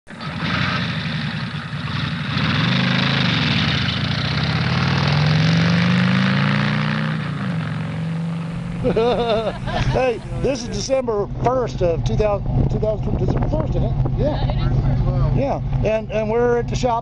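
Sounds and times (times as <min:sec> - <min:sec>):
car engine revving: 0:00.1 - 0:17.0.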